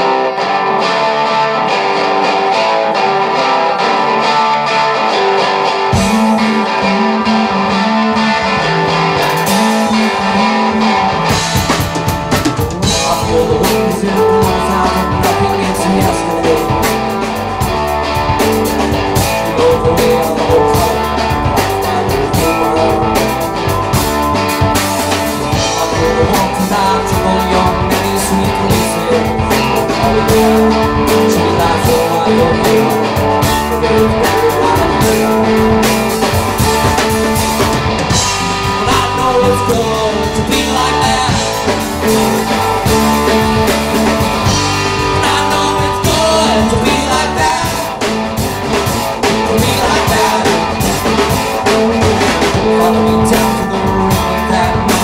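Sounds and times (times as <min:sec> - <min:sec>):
bass line: 0:00.0 - 0:55.0
electric guitar: 0:00.0 - 0:55.0
drum kit with cymbals: 0:05.9 - 0:06.5, 0:09.0 - 0:55.0.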